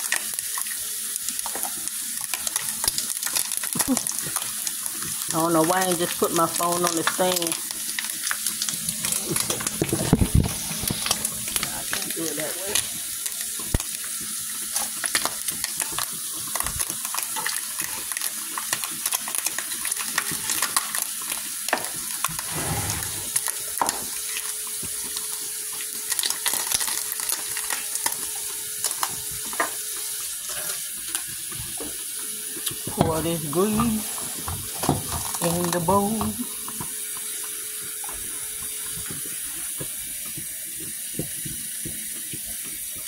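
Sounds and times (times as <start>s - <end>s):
bacon sizzling in grease: 0.0s - 43.0s.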